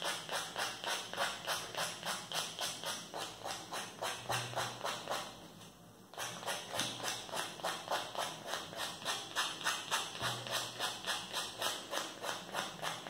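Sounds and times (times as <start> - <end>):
nail file scratching paper edges: 0.0 - 5.4, 6.2 - 13.0.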